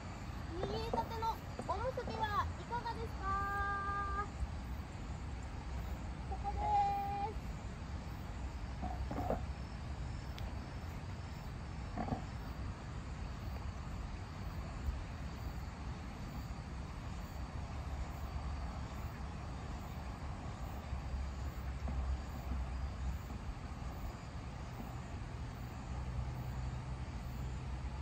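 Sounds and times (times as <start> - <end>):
riverside outdoor noise: 0.0 - 28.0.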